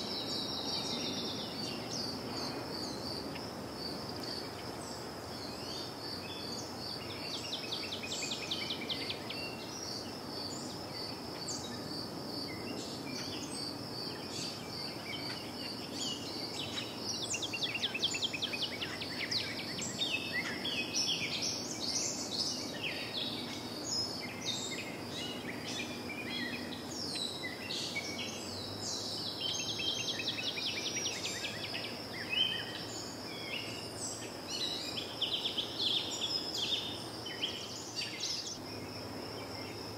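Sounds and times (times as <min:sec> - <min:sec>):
birds chirping and twittering: 0:00.0 - 0:39.9
insect trill: 0:00.0 - 0:39.9.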